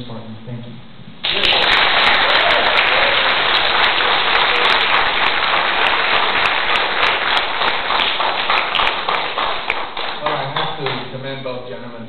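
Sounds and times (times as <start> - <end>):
audience applauding: 1.2 - 11.1.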